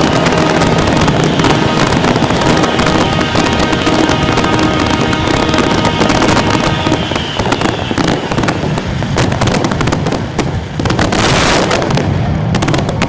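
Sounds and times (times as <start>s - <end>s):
fireworks bangs and crackles: 0.0s - 13.0s
fireworks hissing burst: 0.0s - 13.0s.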